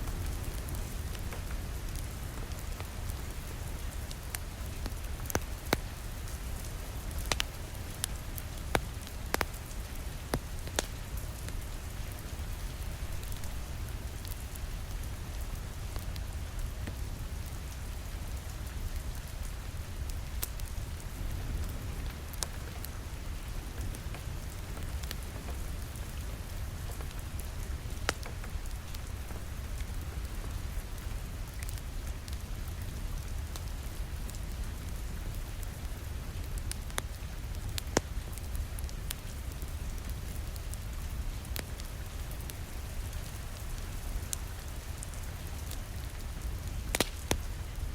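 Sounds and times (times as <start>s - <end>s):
rain pattering on a window: 0.0s - 47.9s
wood fire crackling: 0.0s - 47.9s.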